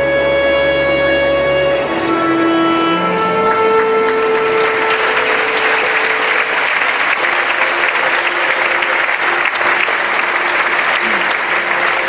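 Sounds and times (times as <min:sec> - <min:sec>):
orchestra held note: 0:01.8 - 0:12.0
audience applauding: 0:01.9 - 0:12.0.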